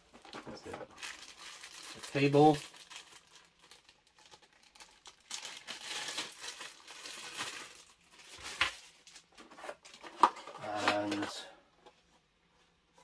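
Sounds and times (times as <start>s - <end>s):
plastic bag crinkling: 0.8s - 11.3s.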